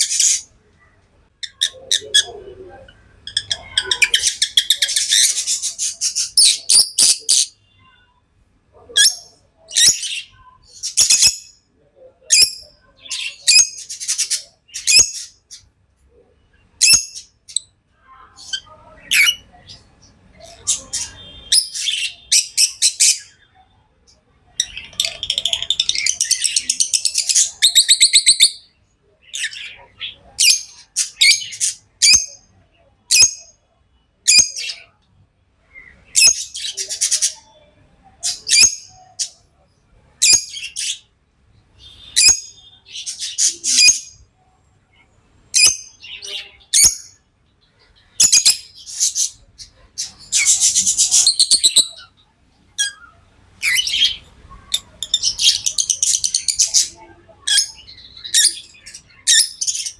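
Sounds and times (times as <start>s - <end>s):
lovebirds chirping: 0.0s - 8.2s, 8.8s - 33.7s, 44.9s - 59.9s.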